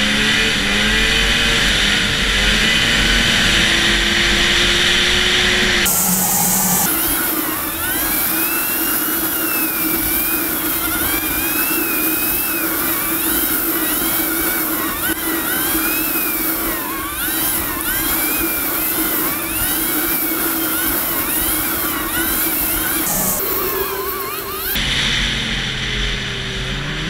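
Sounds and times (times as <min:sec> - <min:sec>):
snowmobile engine whining: 0:00.0 - 0:27.0.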